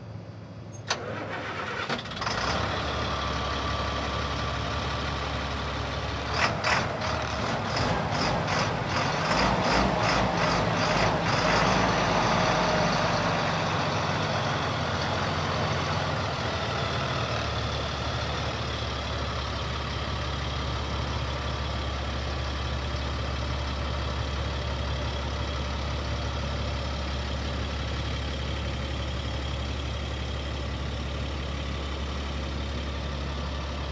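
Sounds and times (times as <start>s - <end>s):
diesel truck engine idling: 0.8s - 33.9s.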